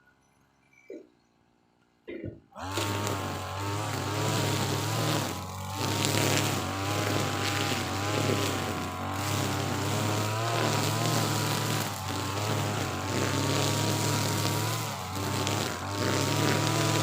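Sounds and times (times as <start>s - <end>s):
brush cutter cutting grass: 2.6s - 17.0s.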